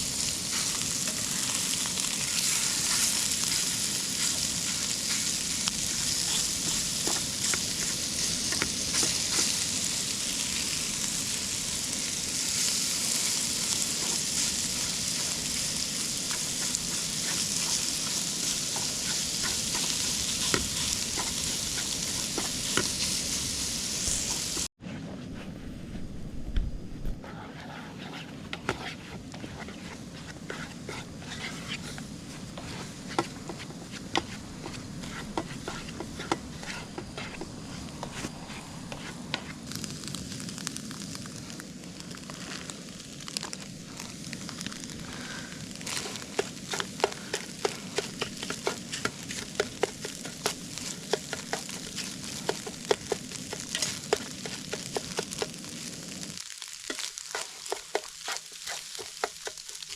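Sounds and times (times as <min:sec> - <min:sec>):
food sizzling in a pan: 0:00.0 - 0:24.7, 0:27.3 - 0:59.9.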